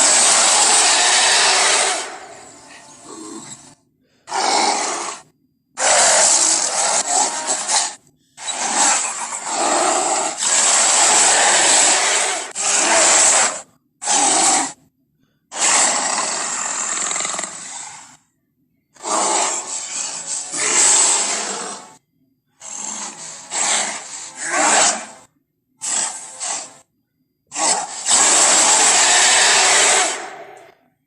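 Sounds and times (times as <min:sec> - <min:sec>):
gorilla roaring: 0:00.0 - 0:14.8, 0:15.5 - 0:18.1, 0:19.0 - 0:22.0, 0:22.6 - 0:26.7, 0:27.5 - 0:30.8.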